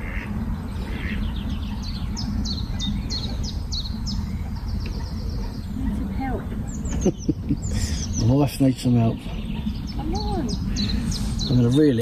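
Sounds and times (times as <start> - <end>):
songbird singing: 0.0 - 12.0
steady low rumble: 0.0 - 12.0.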